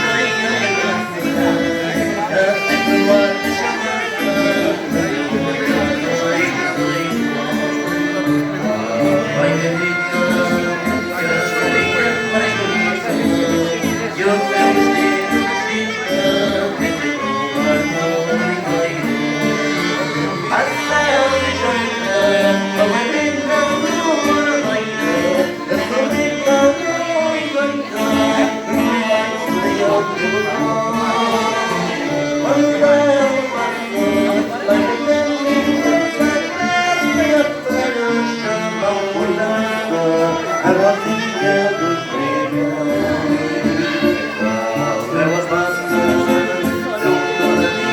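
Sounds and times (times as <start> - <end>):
live dance band music: 0.0 - 47.9
person singing: 0.0 - 47.9.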